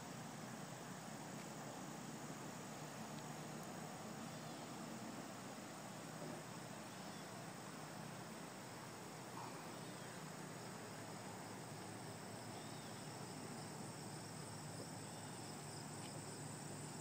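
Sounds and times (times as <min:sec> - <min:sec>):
crickets and insects trilling: 0:00.0 - 0:17.0
faint hiss: 0:00.0 - 0:17.0.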